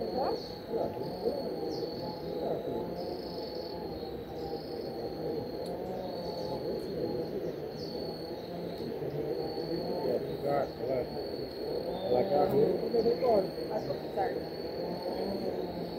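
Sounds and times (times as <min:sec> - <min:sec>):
insects trilling: 0:00.0 - 0:15.9.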